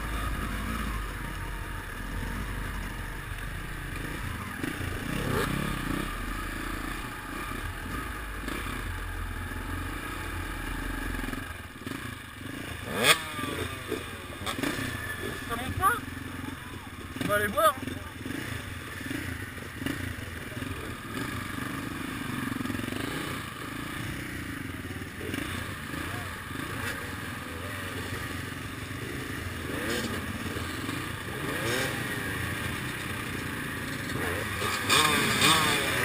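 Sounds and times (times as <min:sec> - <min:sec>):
motorcycle engine revving: 0:00.0 - 0:36.0
motorcycle engines idling: 0:00.0 - 0:36.0.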